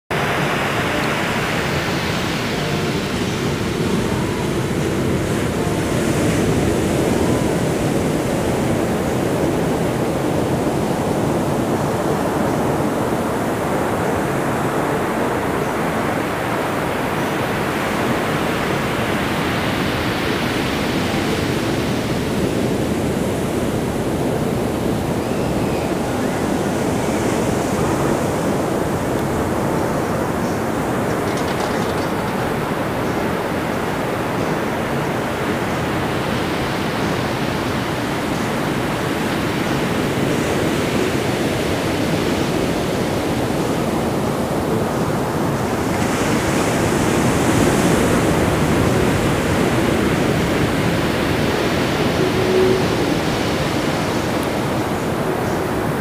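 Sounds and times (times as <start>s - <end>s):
waves breaking on sandy beach: 0.1s - 56.0s.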